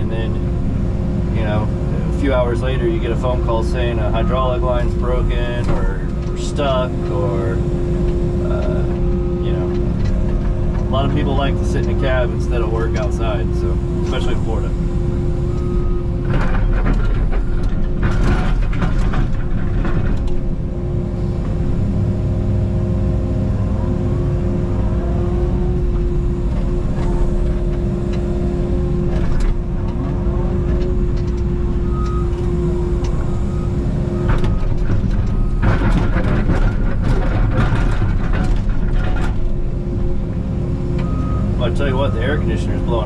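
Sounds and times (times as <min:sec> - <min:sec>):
diesel engine droning: 0:00.0 - 0:43.0
hydraulic whine: 0:00.0 - 0:43.0.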